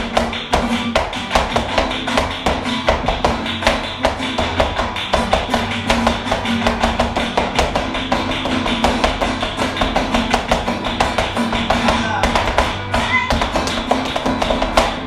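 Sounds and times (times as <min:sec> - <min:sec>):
flamenco guitar playing: 0:00.0 - 0:15.0
sharp percussive taps: 0:00.1 - 0:15.0.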